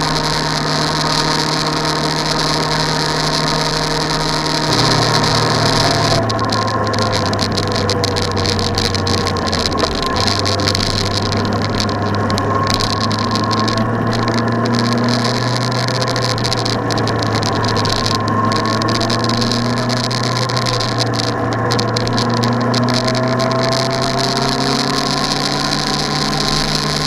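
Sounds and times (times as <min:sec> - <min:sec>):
constant wash of noise: 0:00.0 - 0:27.0
low mechanical drone: 0:00.0 - 0:27.0.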